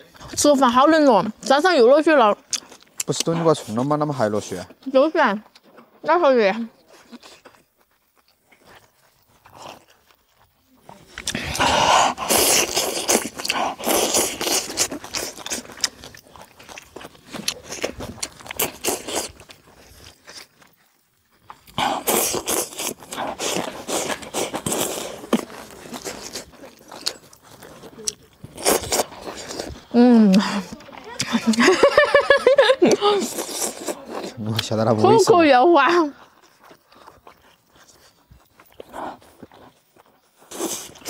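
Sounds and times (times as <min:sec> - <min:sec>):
slurping and chewing: 0:00.0 - 0:41.0.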